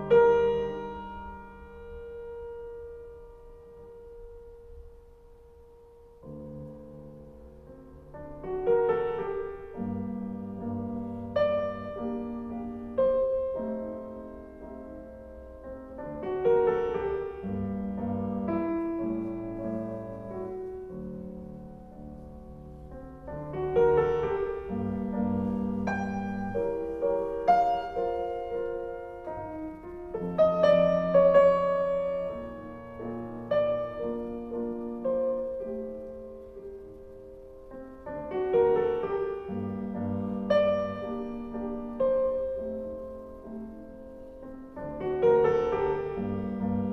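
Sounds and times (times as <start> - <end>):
piano music through speakers: 0.0 - 46.9.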